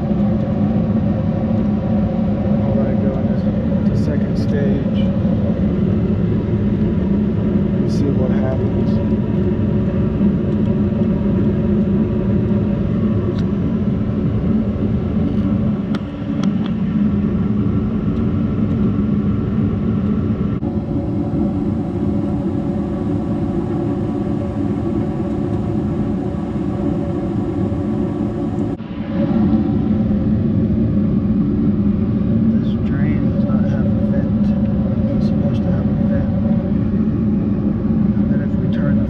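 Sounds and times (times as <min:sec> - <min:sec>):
furnace motor hum: 0:00.0 - 0:39.0.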